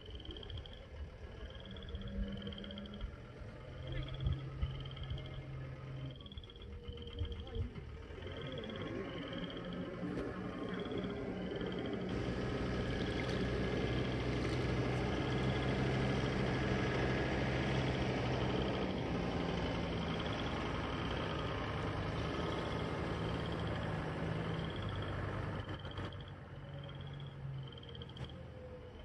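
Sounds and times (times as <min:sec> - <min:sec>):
frogs trilling: 0:00.0 - 0:12.2, 0:12.8 - 0:29.0
tractor engine running: 0:00.0 - 0:29.0.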